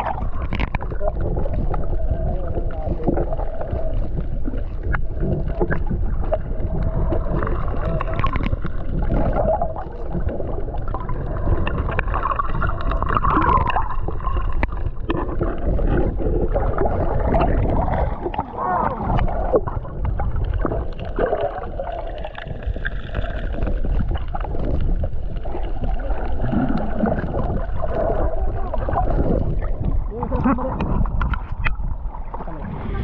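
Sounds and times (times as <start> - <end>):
underwater water gurgling: 0.0 - 33.0.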